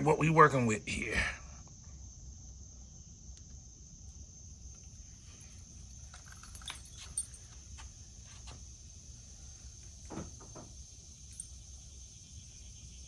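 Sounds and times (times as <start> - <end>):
faint high-pitched insect chirr: 0.0 - 13.0.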